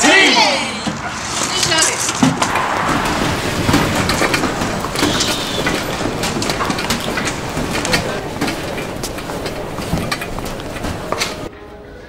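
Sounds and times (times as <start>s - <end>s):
rumbling noise: 0.6s - 11.5s
mechanical clicks and clanks: 1.4s - 11.5s.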